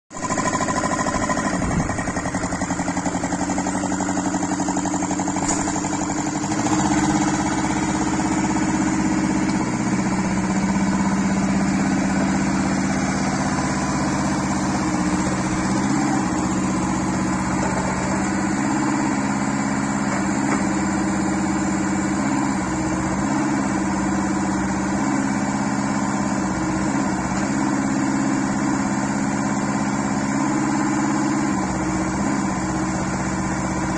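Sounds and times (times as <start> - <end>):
mini excavator engine running: 0.1 - 33.9.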